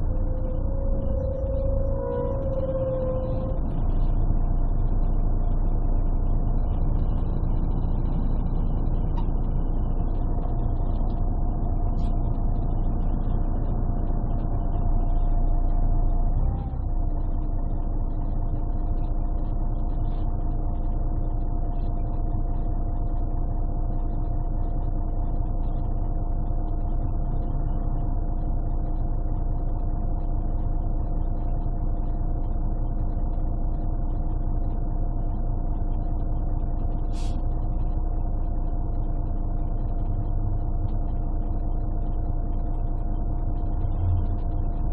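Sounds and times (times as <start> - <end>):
bus engine rumble from inside: 0.0 - 44.9
gearbox whine: 0.0 - 44.9.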